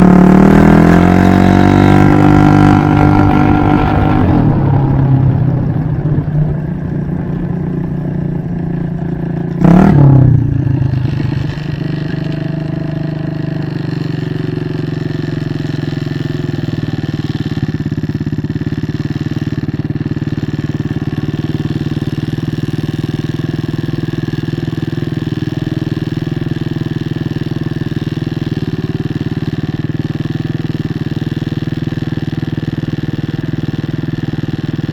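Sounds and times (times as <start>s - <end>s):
scooter engine running: 0.0s - 34.9s.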